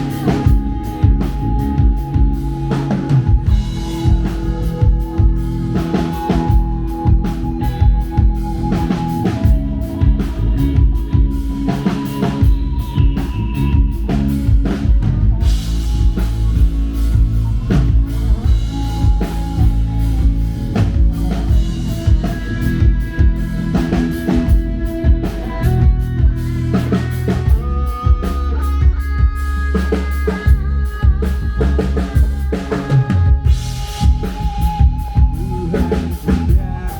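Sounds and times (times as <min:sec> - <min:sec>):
drum kit beat: 0:00.0 - 0:36.9
electric guitar sustained notes: 0:00.0 - 0:36.9
rock band playing: 0:00.0 - 0:36.9.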